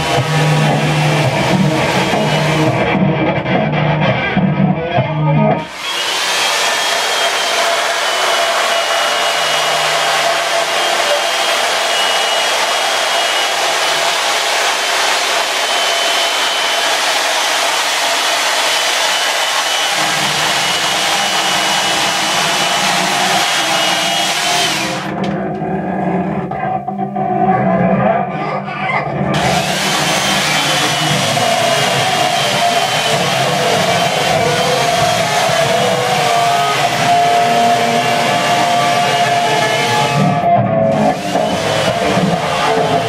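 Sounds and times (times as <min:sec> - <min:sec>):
chainsaw running: 0:00.0 - 0:03.0, 0:05.6 - 0:25.3, 0:29.3 - 0:43.0.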